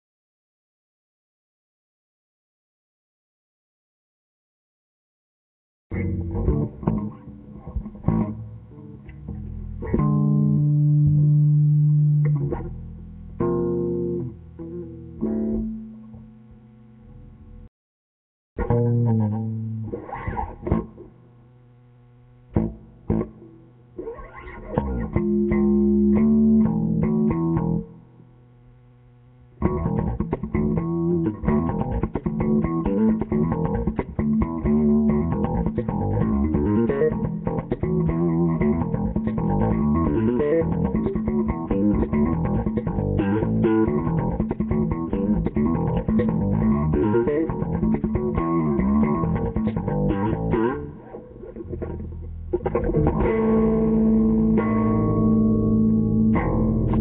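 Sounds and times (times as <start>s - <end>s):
bass guitar playing: 5.9s - 17.7s, 18.6s - 28.2s, 29.2s - 57.0s.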